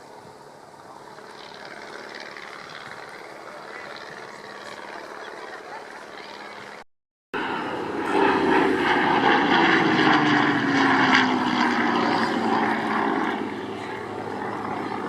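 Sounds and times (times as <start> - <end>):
propeller aircraft flying past: 0.0 - 6.8, 7.4 - 15.0.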